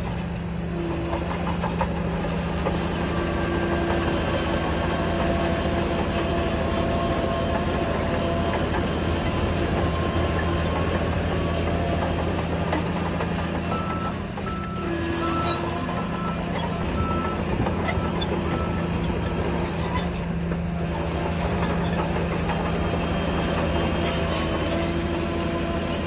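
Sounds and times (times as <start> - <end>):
bulldozer diesel engine running: 0.0 - 26.0
steel tracks clanking: 0.0 - 26.0.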